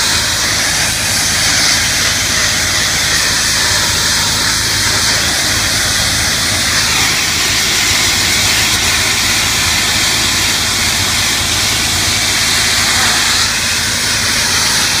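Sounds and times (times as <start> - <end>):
high-pressure water spray hiss: 0.0 - 15.0
pressure washer engine drone: 0.0 - 15.0.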